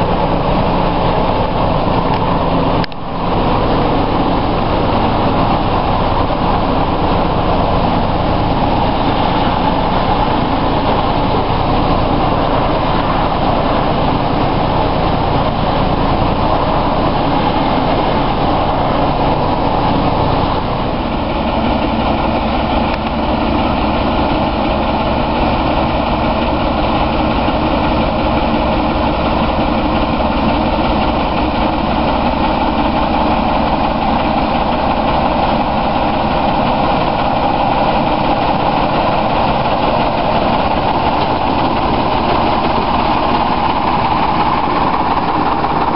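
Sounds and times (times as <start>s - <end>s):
diesel locomotive engine running: 0.0s - 45.9s.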